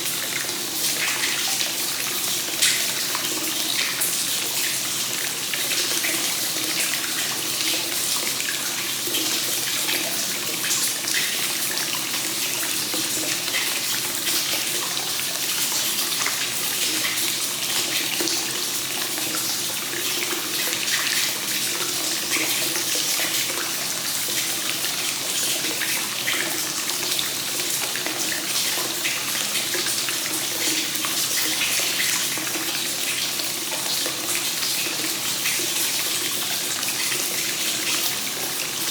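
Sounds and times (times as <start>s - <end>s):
water pouring into bath: 0.0s - 38.9s.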